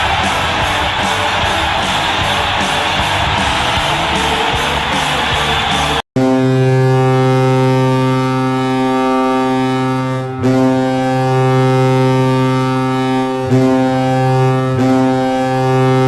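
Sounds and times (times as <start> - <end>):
arena goal horn blast: 0.0 - 5.0, 5.6 - 16.0.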